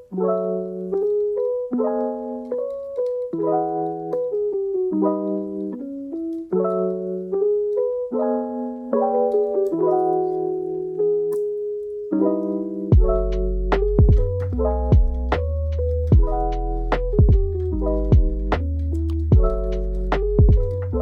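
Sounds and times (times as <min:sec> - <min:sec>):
gentle piano tune: 0:00.0 - 0:21.0.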